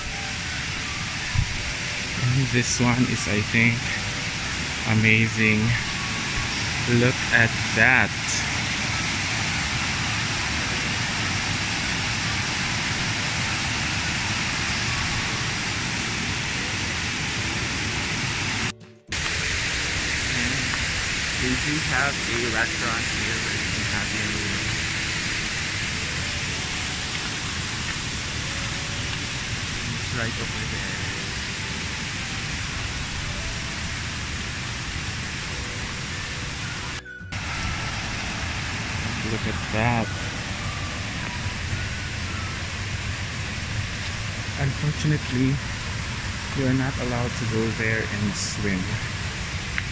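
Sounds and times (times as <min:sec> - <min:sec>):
water rushing over cascades: 0:00.0 - 0:49.9.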